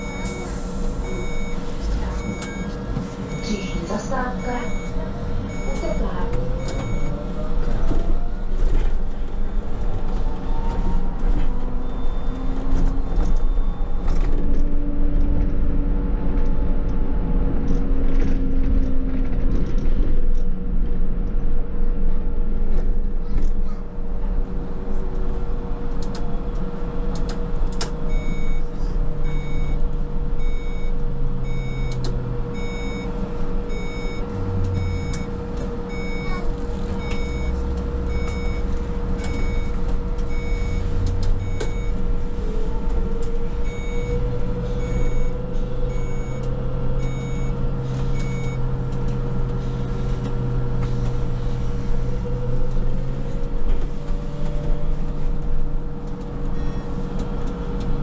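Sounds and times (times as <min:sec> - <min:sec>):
trolleybus electric drive hum: 0:00.0 - 0:58.0.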